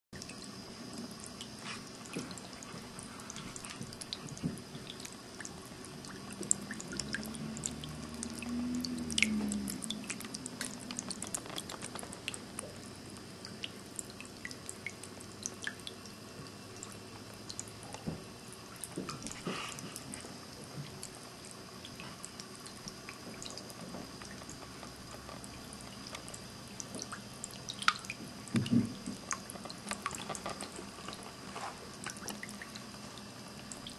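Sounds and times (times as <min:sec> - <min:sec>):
water trickling into a basin: 0:00.2 - 0:33.9.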